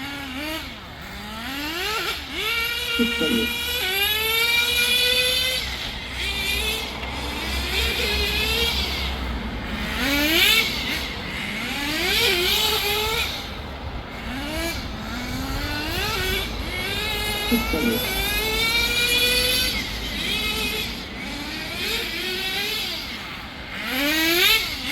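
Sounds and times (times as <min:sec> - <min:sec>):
small model engine revving: 0:00.0 - 0:24.9.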